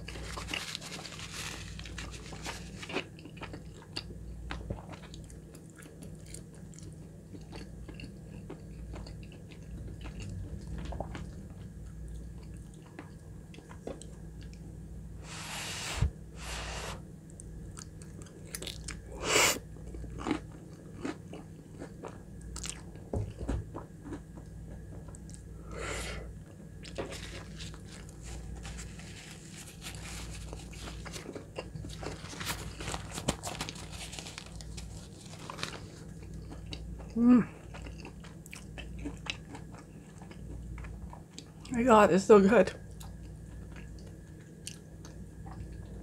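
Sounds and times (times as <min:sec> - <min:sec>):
person chewing food: 0:00.0 - 0:14.6, 0:16.5 - 0:19.2, 0:19.8 - 0:41.7, 0:42.9 - 0:46.0.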